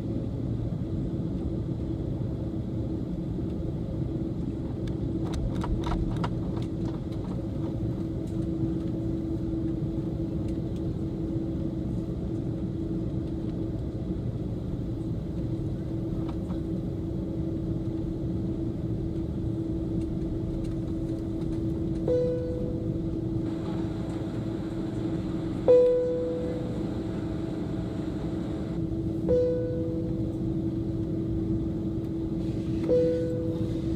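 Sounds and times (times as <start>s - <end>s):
idling jet engines rumble: 0.0s - 33.9s
steady hum: 0.0s - 33.9s.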